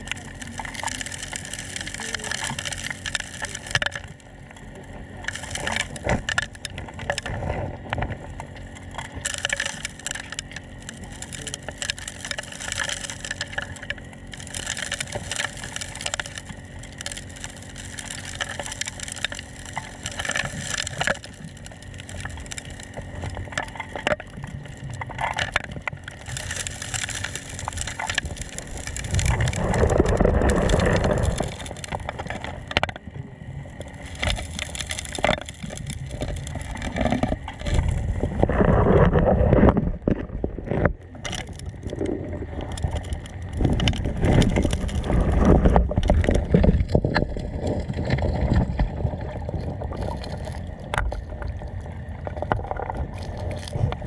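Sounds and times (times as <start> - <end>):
gravel and rocks clattering: 0.0 - 33.1, 33.7 - 54.0
low rumble: 0.0 - 54.0.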